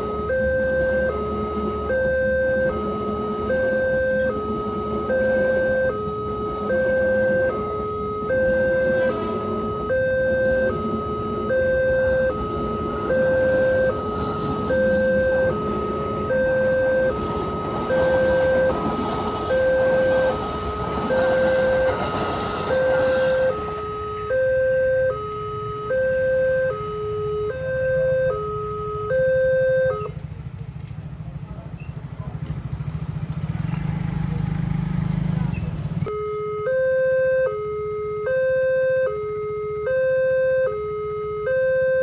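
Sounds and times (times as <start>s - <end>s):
two-tone crossing alarm: 0.0s - 30.2s, 36.0s - 42.0s.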